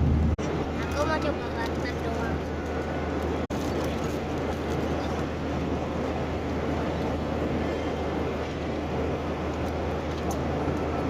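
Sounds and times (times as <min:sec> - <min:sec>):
airplane cabin rushing noise: 0:00.0 - 0:11.0.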